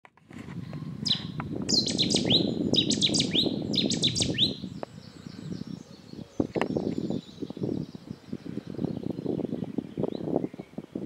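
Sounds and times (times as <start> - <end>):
warbler singing: 0.6 - 10.9.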